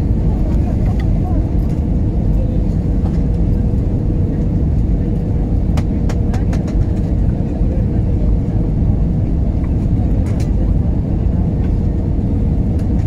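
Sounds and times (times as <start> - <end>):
aircraft engines: 0.0 - 13.0.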